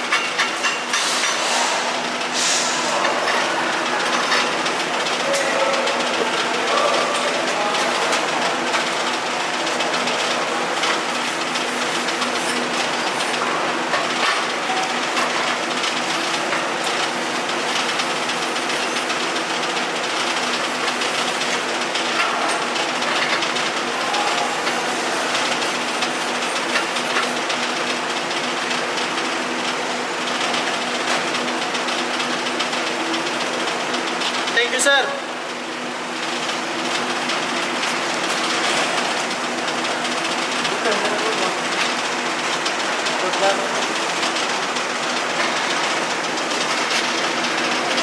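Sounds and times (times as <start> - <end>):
welding machine hum: 0.0 - 48.0
welding arc crackling: 7.3 - 34.9, 35.7 - 48.0.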